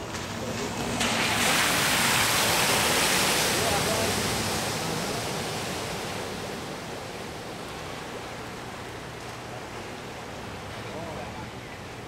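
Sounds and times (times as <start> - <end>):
tyres spraying floodwater: 0.0 - 12.0.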